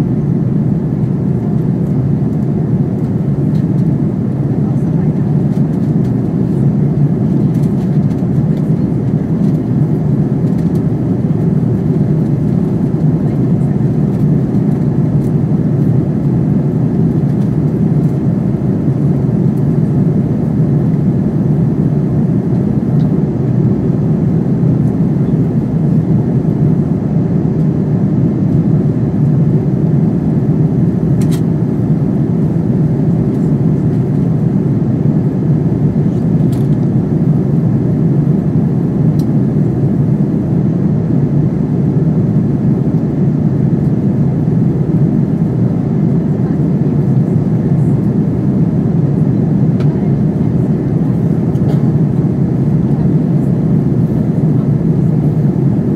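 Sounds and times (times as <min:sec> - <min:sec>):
jet engines humming: 0:00.0 - 0:55.9.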